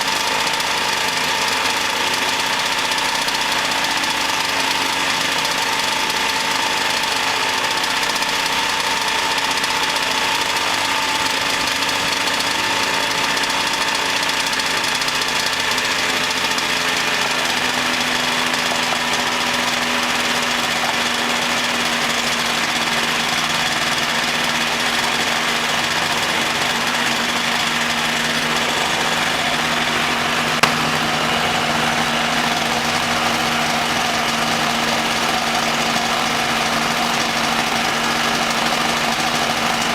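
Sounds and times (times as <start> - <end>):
ultralight aircraft engine running: 0.0 - 39.9.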